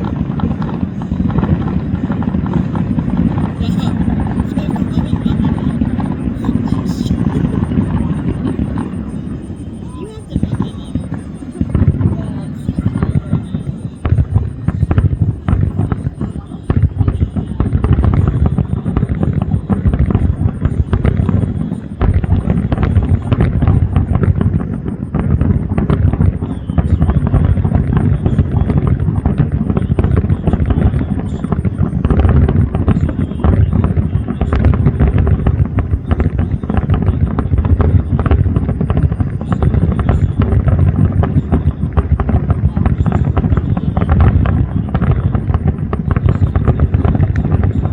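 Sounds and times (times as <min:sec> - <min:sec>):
fireworks booming and crackling: 0:00.0 - 0:47.9.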